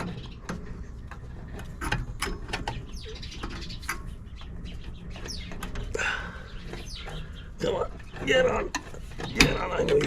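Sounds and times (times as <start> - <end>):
birds chirping: 0.0 - 10.0
small clicks and knocks: 0.0 - 10.0.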